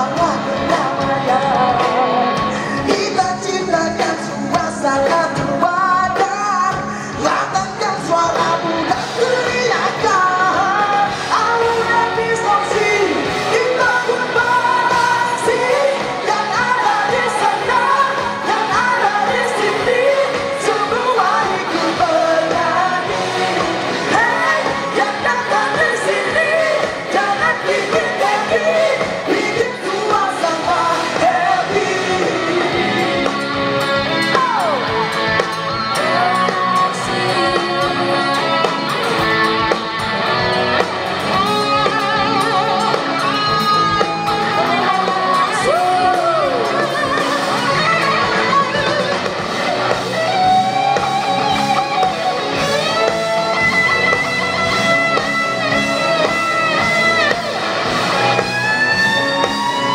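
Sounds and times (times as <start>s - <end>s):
woman and man singing duet: 0.0s - 39.7s, 41.3s - 57.4s
rock band with electric guitar: 0.0s - 59.9s.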